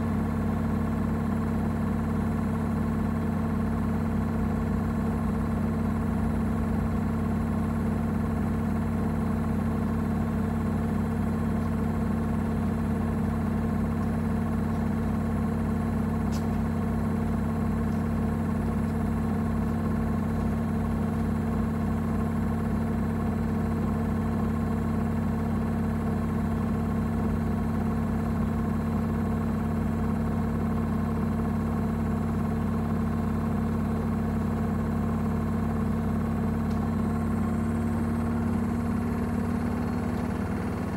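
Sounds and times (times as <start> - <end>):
washing machine spinning: 7.2 - 40.9.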